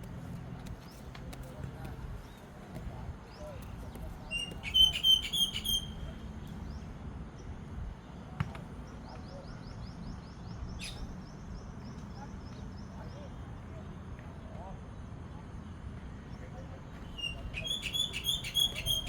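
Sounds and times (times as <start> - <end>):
low outdoor rumble: 0.0 - 19.0
birds chirping: 0.6 - 13.7, 16.2 - 19.0.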